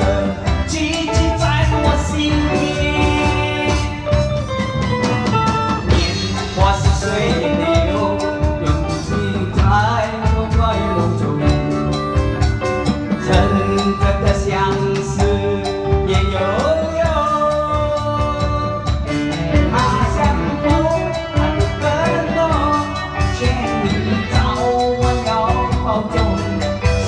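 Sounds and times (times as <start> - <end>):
person singing with band: 0.0 - 27.0.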